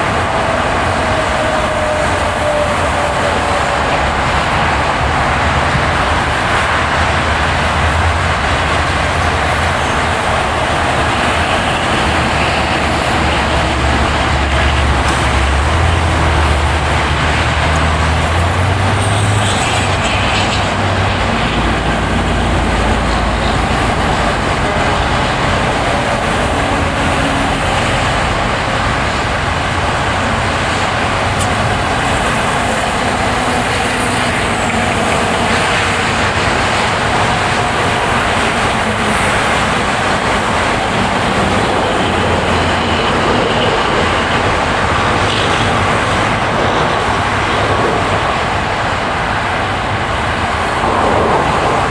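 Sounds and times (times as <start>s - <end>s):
tyre and road noise: 0.0s - 51.9s.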